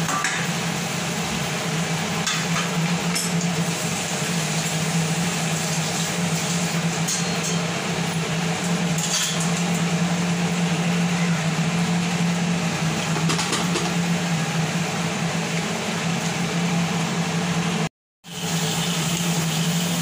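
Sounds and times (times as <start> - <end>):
oil sizzling and bubbling: 0.0 - 20.0.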